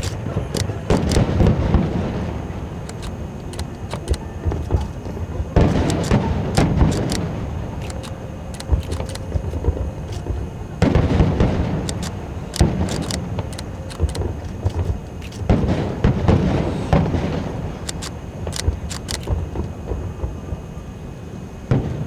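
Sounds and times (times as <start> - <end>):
fireworks bangs and pops: 0.0 - 20.7, 21.7 - 22.0.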